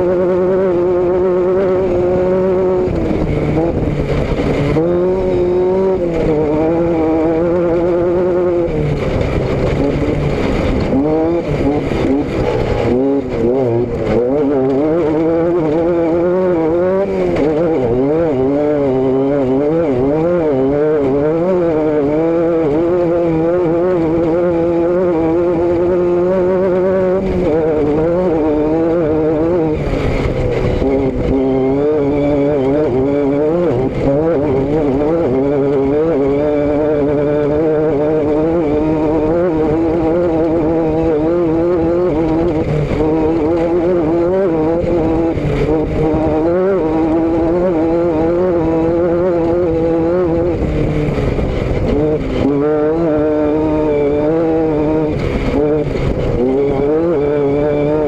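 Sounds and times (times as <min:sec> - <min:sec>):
vehicle engine and exhaust running: 0:00.0 - 0:58.0.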